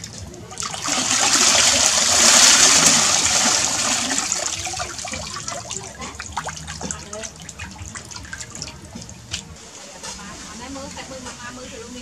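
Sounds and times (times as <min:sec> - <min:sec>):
water pouring and splashing into pool: 0:00.0 - 0:09.8.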